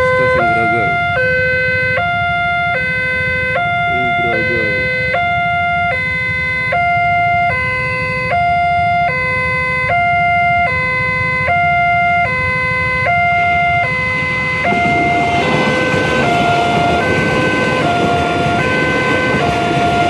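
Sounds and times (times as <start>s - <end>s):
two-tone emergency siren: 0.0s - 20.0s.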